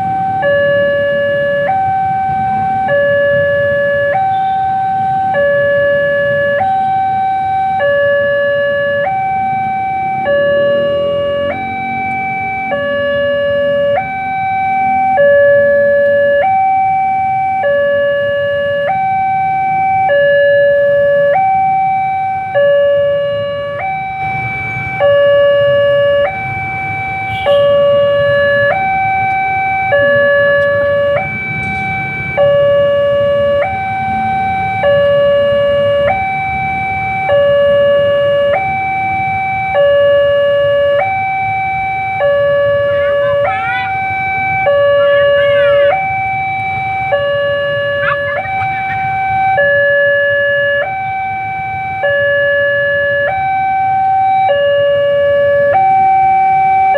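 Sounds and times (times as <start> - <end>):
two-tone crossing alarm: 0.0 - 56.9.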